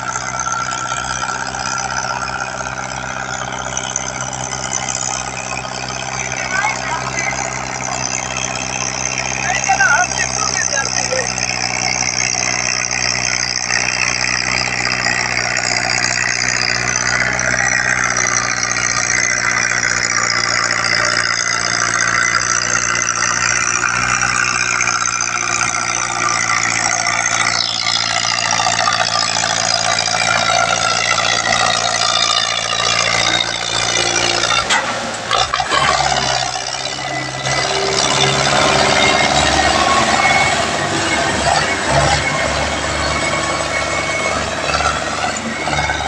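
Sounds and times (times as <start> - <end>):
tractor diesel engine labouring: 0.0 - 46.0.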